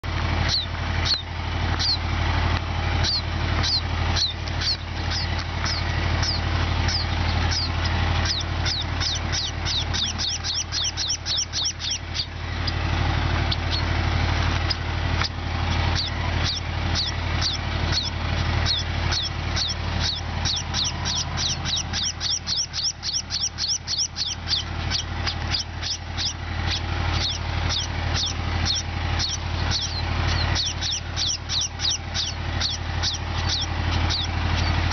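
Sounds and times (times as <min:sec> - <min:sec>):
sparrows chirping: 0:00.0 - 0:34.9
steady low hum: 0:00.0 - 0:34.9.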